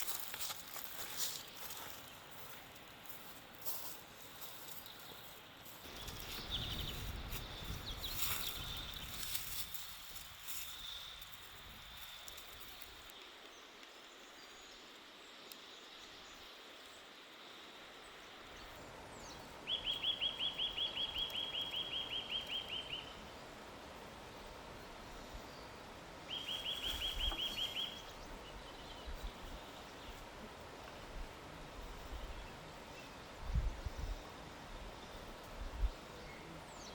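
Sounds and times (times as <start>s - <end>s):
background hiss: 0.0s - 36.9s.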